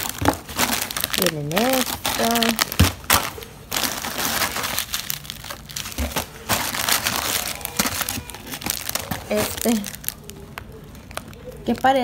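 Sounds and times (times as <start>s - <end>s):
plastic wrappers crinkling: 0.0s - 12.0s.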